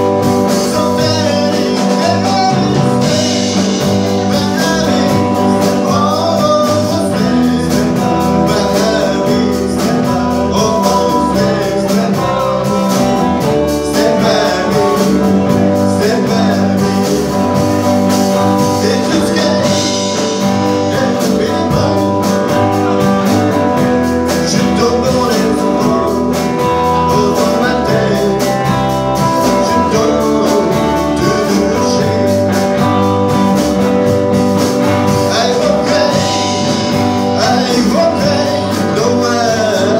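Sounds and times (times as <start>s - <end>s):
drum kit: 0.0s - 39.9s
electric guitars: 0.0s - 39.9s
man singing: 0.0s - 39.9s
upright double bass: 0.0s - 39.9s.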